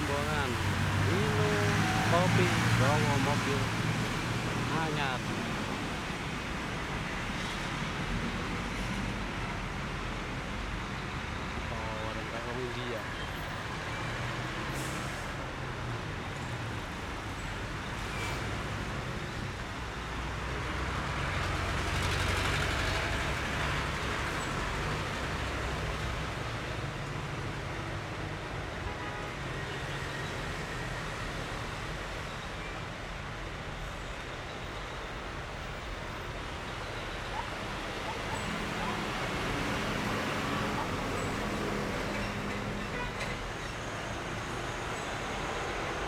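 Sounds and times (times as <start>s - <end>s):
truck engines rumbling: 0.0s - 46.0s.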